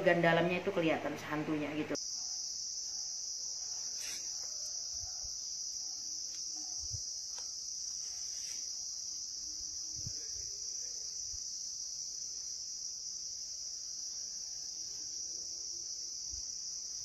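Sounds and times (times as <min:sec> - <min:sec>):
high-pitched insect chorus: 0:01.9 - 0:17.0.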